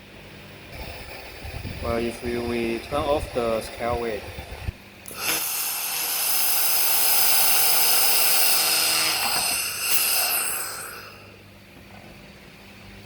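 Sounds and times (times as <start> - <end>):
laser welding gun hissing and buzzing: 0.7 - 11.4.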